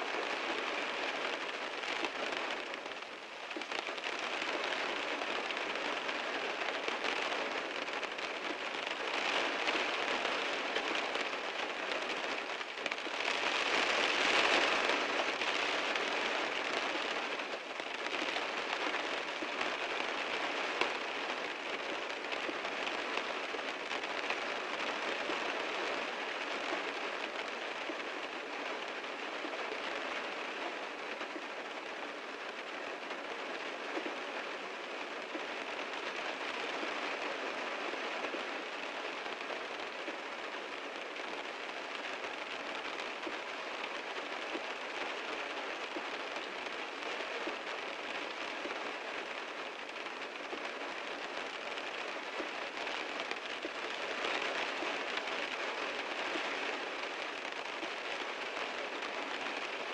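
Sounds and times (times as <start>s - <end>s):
heavy rain drumming on a car: 0.0s - 59.9s.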